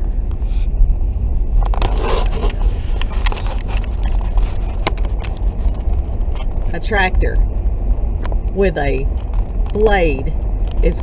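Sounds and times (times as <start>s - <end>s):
car driving on snowy road: 0.0s - 11.0s
crackling and scraping: 0.1s - 11.0s.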